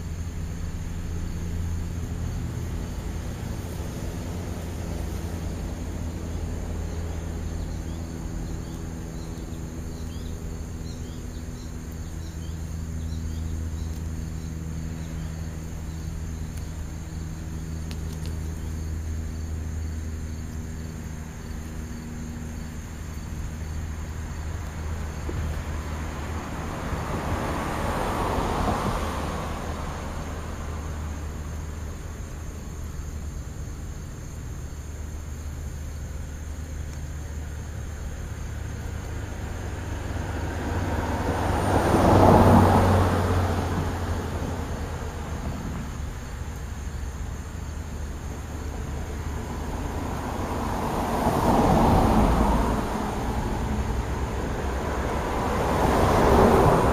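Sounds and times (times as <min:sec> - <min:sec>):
faint insect chirps: 0:00.0 - 0:56.9
vehicle passing: 0:00.0 - 0:56.9.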